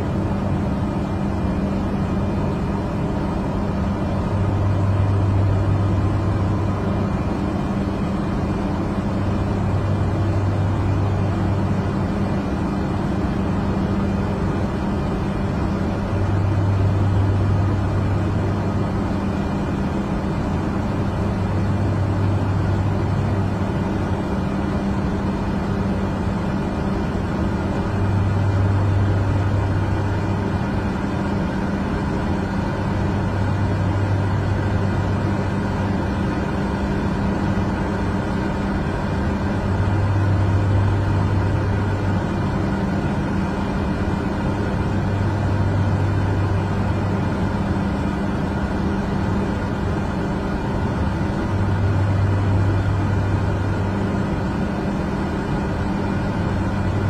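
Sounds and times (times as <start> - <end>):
airliner cabin engine drone: 0.0 - 57.0
low hum: 0.0 - 57.0.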